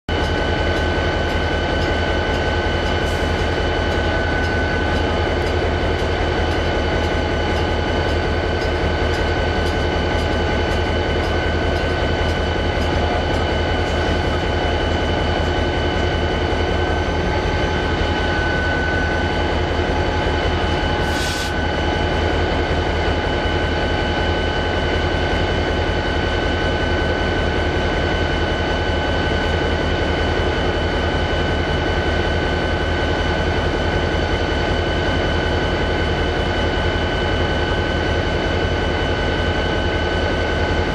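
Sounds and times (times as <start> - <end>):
diesel locomotive engine humming: 0.1 - 40.9
train cars rolling on track: 0.1 - 40.9.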